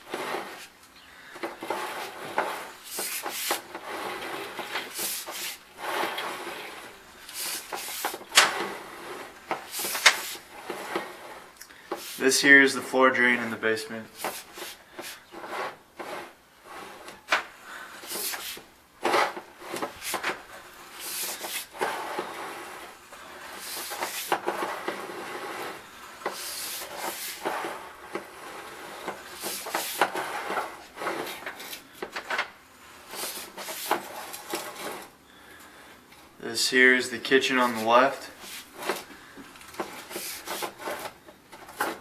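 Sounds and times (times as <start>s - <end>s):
cable rubbing and scraping: 0.0s - 35.2s, 36.4s - 42.0s.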